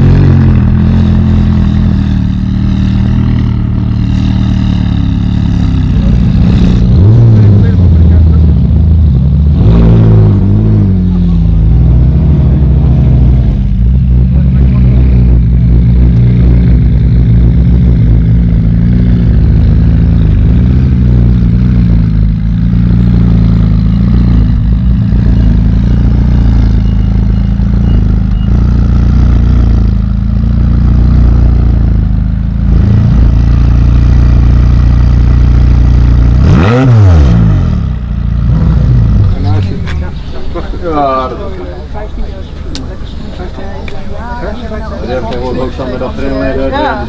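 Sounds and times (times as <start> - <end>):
engine revving: 0.0 - 42.1
car engine idling: 0.0 - 47.0.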